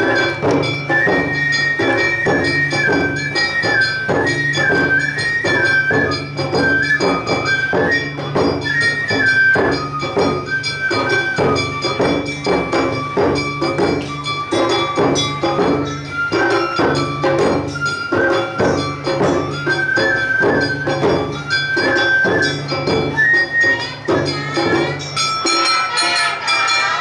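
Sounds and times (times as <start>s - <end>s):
bamboo flute melody: 0.0s - 27.0s
drums beating: 0.0s - 27.0s.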